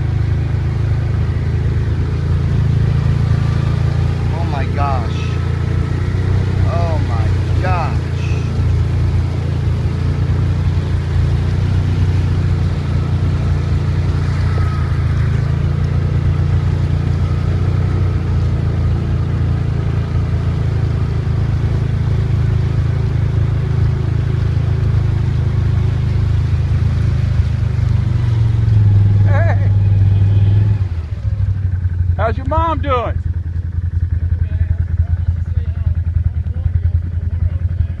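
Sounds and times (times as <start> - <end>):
vehicle engine droning: 0.0 - 38.0.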